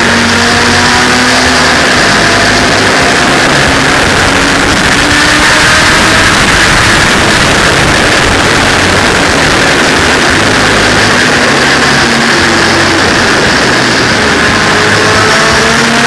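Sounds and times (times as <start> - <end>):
motorcycle running at speed: 0.0 - 16.0.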